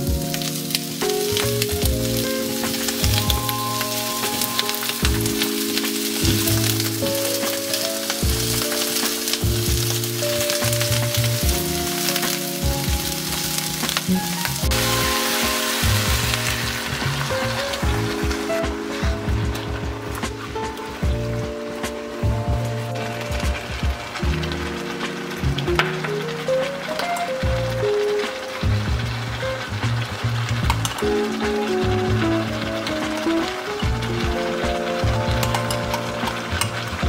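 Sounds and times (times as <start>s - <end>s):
background music with held chords: 0.0s - 37.0s
food sizzling in a pan: 0.0s - 37.0s.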